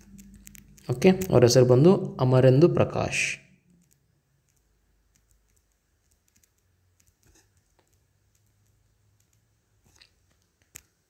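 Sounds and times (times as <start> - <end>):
stylus tapping tablet screen: 0.0 - 2.0, 3.7 - 11.0.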